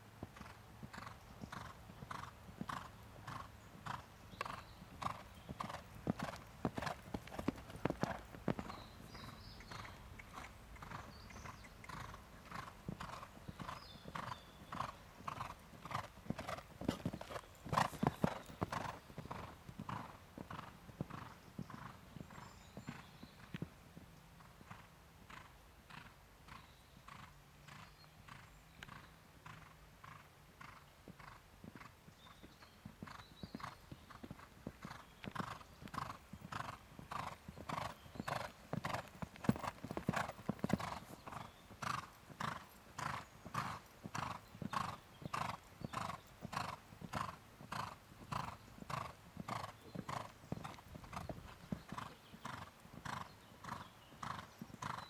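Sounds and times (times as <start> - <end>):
horse cantering on sand: 0.2 - 55.0.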